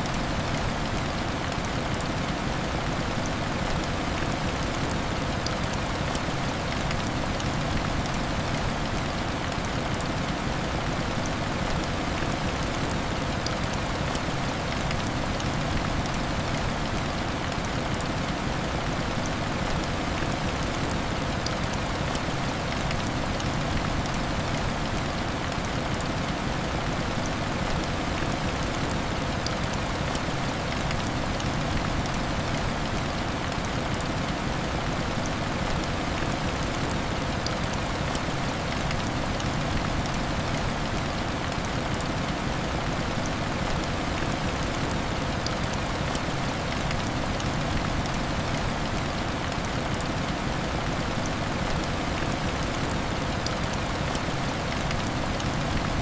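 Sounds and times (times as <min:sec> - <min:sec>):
heavy rain on a window: 0:00.0 - 0:56.0.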